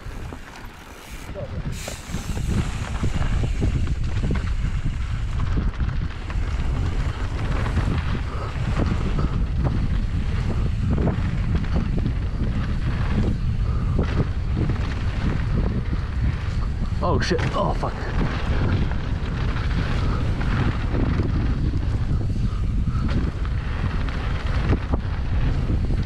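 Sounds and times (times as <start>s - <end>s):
bike knocking and rattling: 0.0s - 26.0s
wind buffeting microphone: 0.0s - 26.0s.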